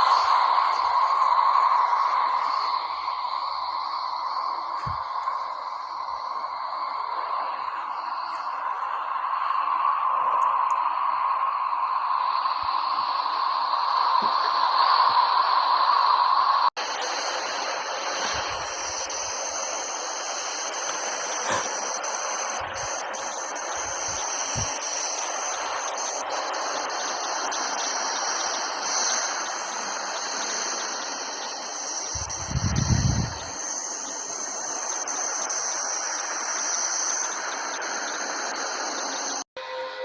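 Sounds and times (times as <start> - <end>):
steady hissing noise: 0.0 - 40.0.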